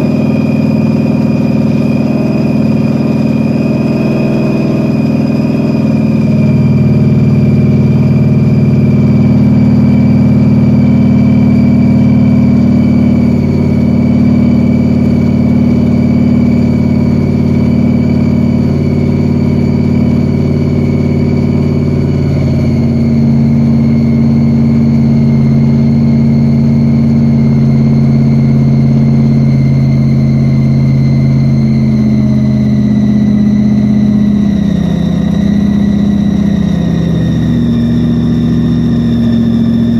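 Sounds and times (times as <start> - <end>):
car engine idling: 0.0 - 39.9
high whine: 0.0 - 39.9.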